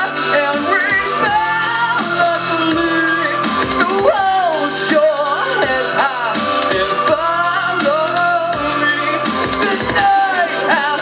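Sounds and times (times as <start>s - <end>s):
man singing into microphone: 0.0s - 11.0s
steady beat: 0.0s - 11.0s.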